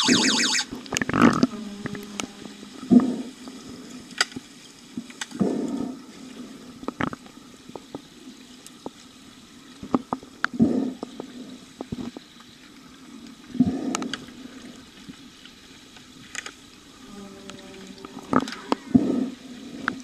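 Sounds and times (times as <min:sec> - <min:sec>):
gurgling rushes of water: 0:00.0 - 0:20.0
steady low underwater hum: 0:00.0 - 0:20.0.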